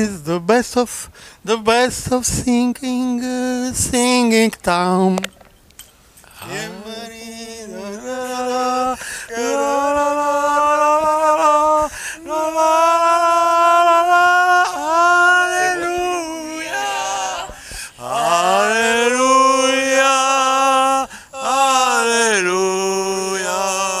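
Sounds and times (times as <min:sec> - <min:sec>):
man singing unaccompanied: 0:00.0 - 0:05.2, 0:06.3 - 0:24.0.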